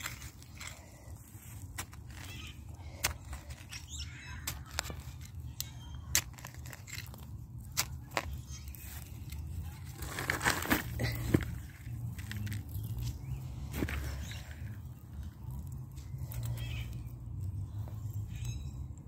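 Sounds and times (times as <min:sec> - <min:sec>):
trowel scraping soil and mulch: 0:00.0 - 0:17.5.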